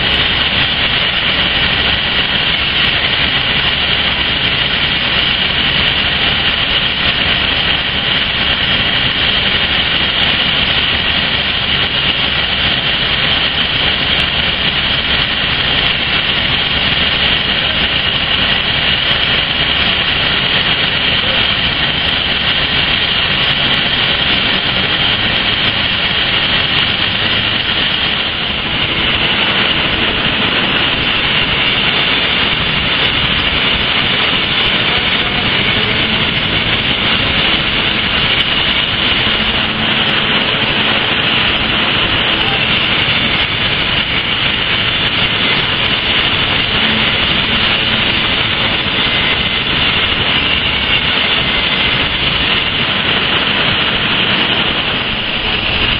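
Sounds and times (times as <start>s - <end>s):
foundry machinery roaring: 0.0s - 55.9s.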